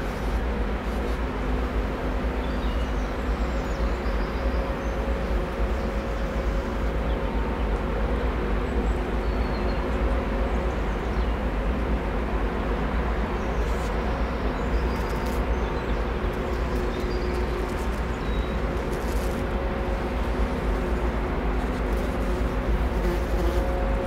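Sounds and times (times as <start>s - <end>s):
ship machinery rumble and hum: 0.0s - 24.0s.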